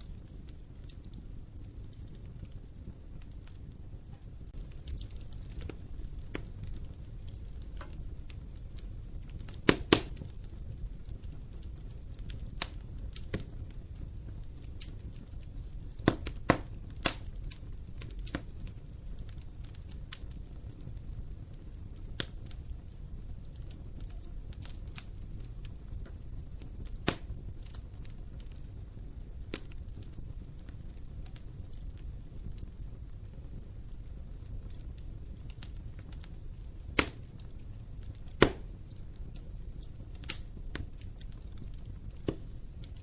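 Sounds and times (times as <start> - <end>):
sharp pops of fire: 0.0 - 43.0
wood fire crackling: 0.0 - 43.0.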